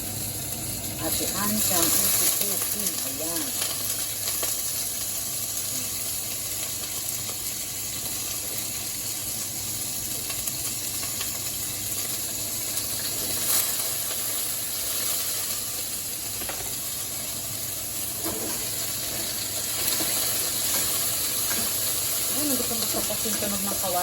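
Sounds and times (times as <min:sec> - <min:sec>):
pork sizzling in a wok: 0:00.0 - 0:24.0.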